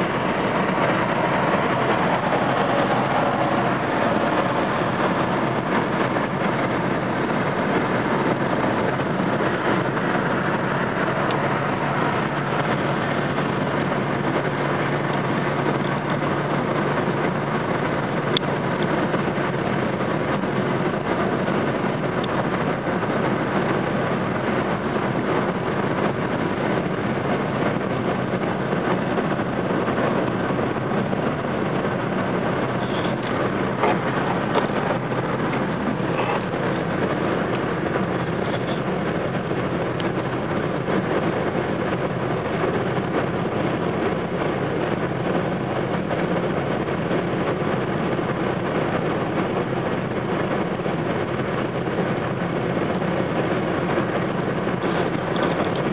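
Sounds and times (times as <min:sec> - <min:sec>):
car cabin road noise: 0:00.0 - 0:55.9.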